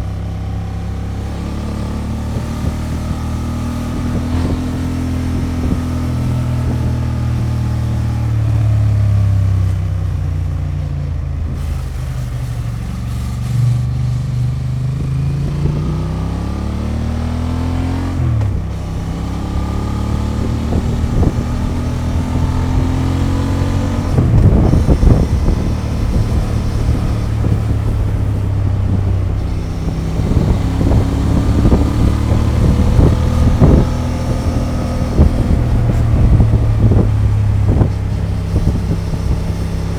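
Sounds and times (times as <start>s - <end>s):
motorcycle engine revving: 0.0s - 39.9s
wind buffeting microphone: 0.8s - 10.2s, 13.8s - 39.9s.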